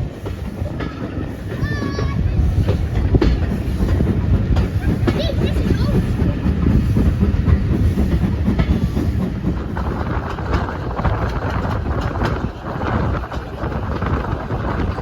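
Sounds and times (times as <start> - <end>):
wheels clicking over rail joints: 0.0 - 15.0
wheels rumbling on rails: 0.0 - 15.0.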